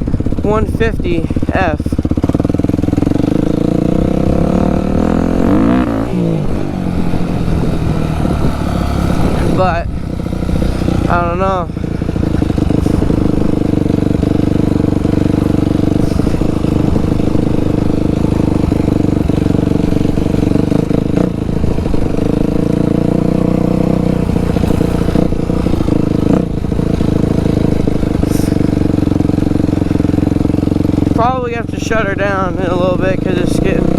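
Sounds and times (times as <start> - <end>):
dirt bike engine running: 0.0 - 33.9.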